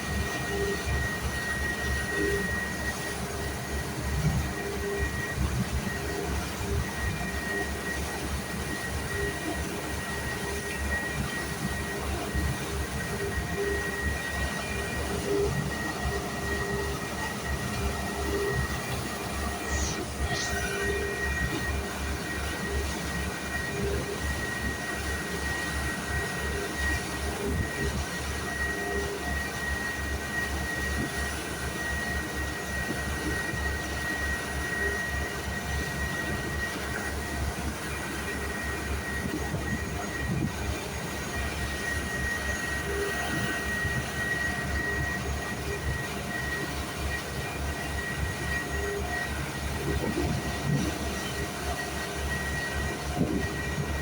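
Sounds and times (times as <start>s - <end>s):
boat engine throbbing: 0.0s - 54.0s
steady high whine: 0.0s - 54.0s.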